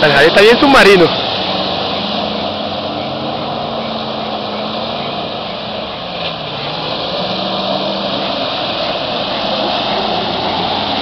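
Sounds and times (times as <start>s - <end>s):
off-road vehicle engines running: 0.0s - 11.0s.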